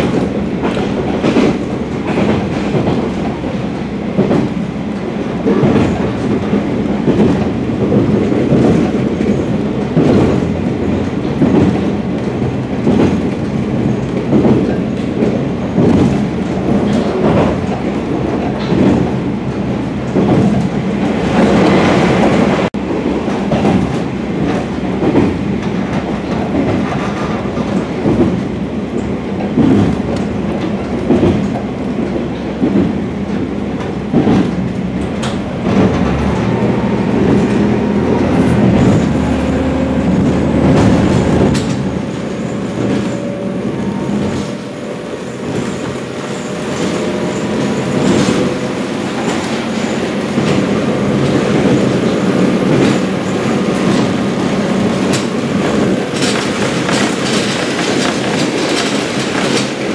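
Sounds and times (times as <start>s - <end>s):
train rumbling from inside: 0.0s - 59.9s
wheels clacking over rail joints: 0.0s - 59.9s.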